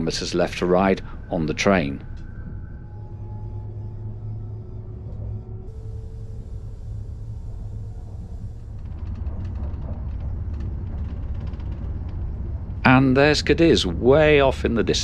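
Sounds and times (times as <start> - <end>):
faint steady tones: 0.0 - 15.0
train low rumble: 0.0 - 15.0.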